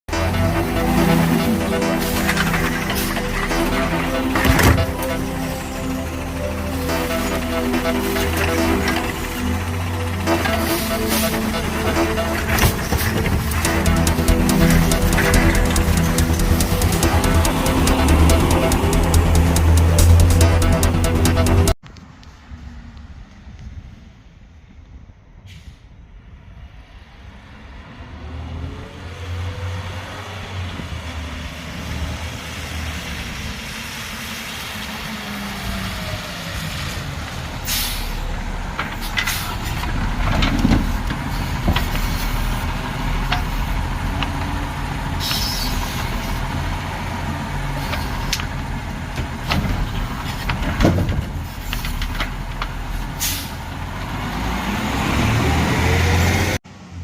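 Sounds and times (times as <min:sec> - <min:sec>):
garbage truck engine revving: 0:00.1 - 0:21.8, 0:28.1 - 0:56.6.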